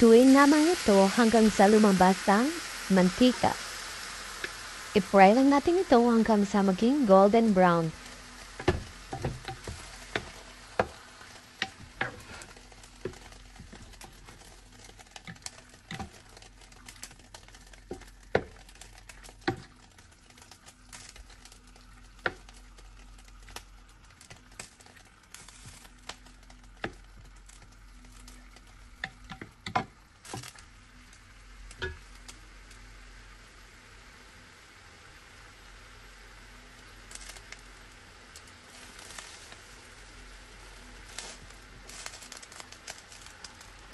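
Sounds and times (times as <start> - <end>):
pork sizzling in hot oil: 0.0 - 43.9.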